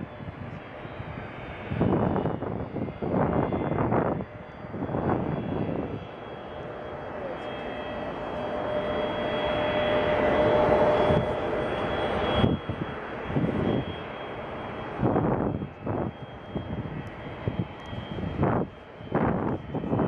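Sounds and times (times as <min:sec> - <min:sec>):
gusty bursts of noise: 0:00.0 - 0:20.0
jet engines running: 0:00.0 - 0:20.0.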